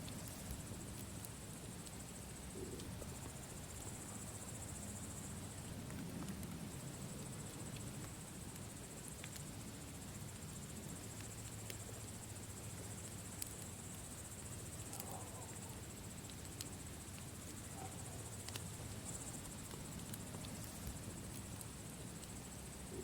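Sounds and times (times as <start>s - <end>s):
campfire crackling: 0.0s - 23.0s
cricket trill: 0.0s - 23.0s.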